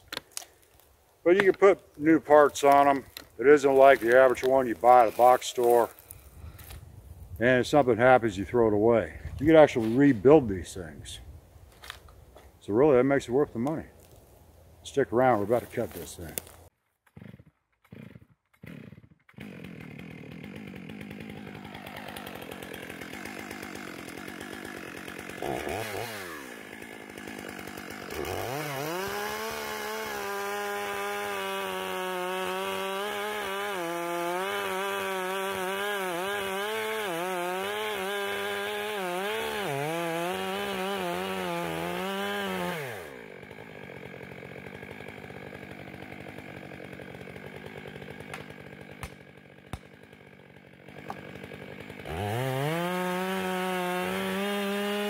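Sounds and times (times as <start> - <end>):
chainsaw cutting a log: 0.0 - 8.8, 15.2 - 55.0
chainsaw idling: 1.3 - 6.7, 15.3 - 55.0.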